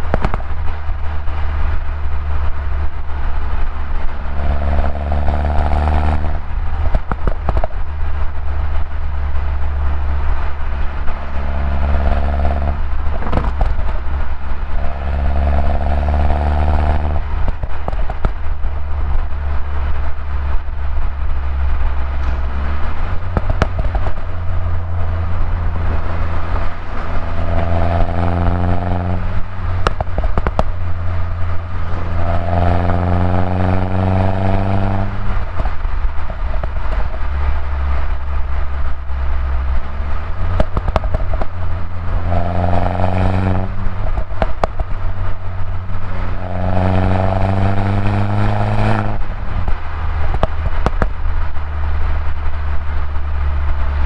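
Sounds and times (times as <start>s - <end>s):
car engine revving through gears: 0.0s - 54.0s
exhaust crackles and clicks: 0.0s - 54.0s.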